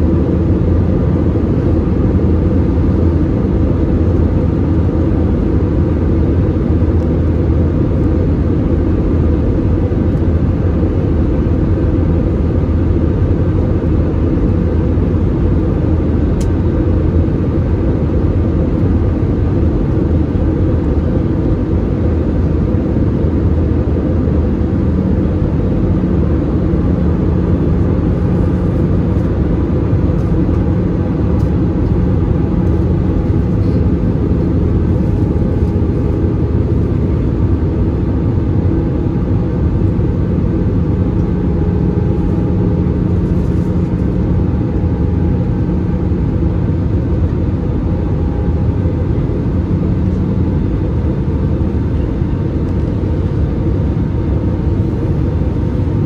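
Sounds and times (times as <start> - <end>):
airplane cabin engine rumble: 0.0 - 56.0
steady low hum: 0.0 - 56.0.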